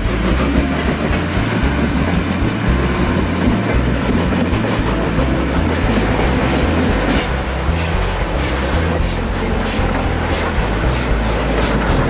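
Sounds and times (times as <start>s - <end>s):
background music with bass line: 0.0s - 12.0s
train rolling on rails: 0.0s - 12.0s.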